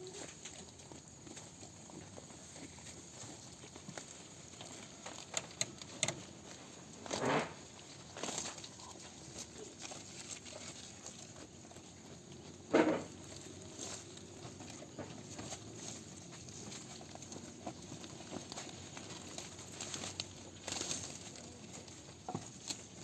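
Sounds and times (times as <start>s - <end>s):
faint shuffling and clicking: 0.0s - 23.0s.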